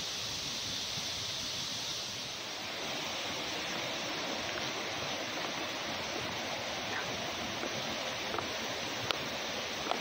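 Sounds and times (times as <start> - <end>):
storm water and rain hiss: 0.0 - 10.0.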